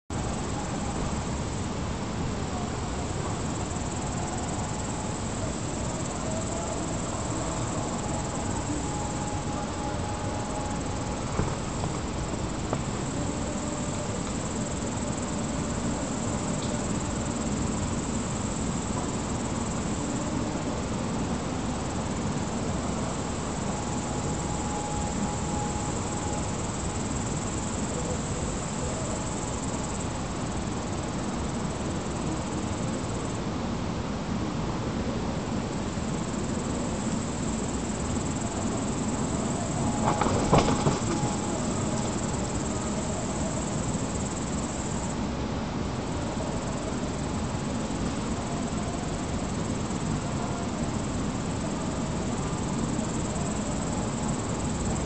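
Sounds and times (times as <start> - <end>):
insects chirring: 2.4 - 33.4, 35.8 - 45.2, 46.1 - 55.0.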